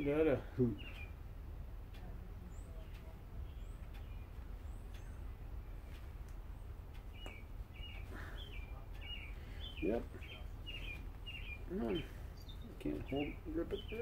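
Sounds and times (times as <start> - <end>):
low background rumble: 0.0 - 14.0
small birds chirping: 0.0 - 14.0
faint clicks: 0.8 - 13.1.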